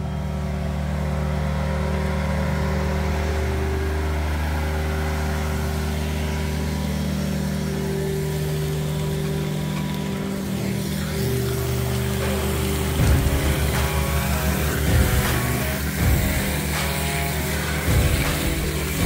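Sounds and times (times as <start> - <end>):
engine and blower drone: 0.0 - 19.0.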